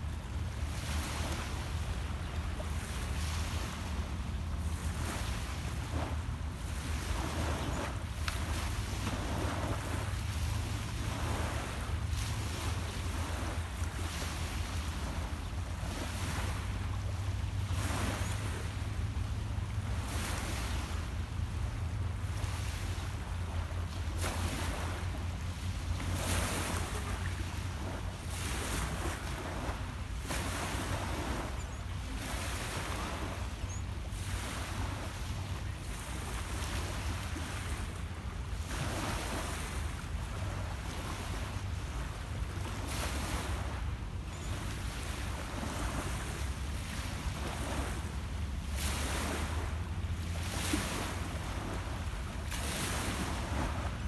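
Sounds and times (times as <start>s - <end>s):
waves lapping on pebble beach: 0.0s - 54.0s
wind rumble on microphone: 0.0s - 54.0s.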